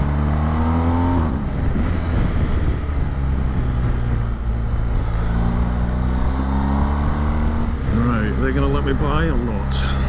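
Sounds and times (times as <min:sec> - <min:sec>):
motorcycle engine: 0:00.0 - 0:10.0
wind rushing over microphone: 0:00.0 - 0:10.0.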